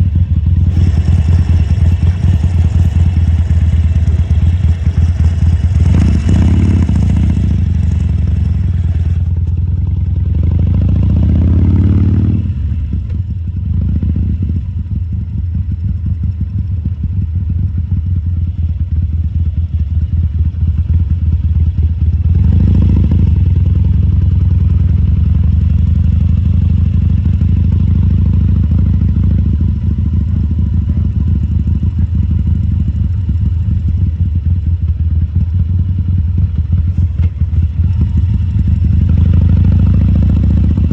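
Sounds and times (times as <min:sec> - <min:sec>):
motorcycle engine revving: 0:00.0 - 0:18.1, 0:22.0 - 0:40.9.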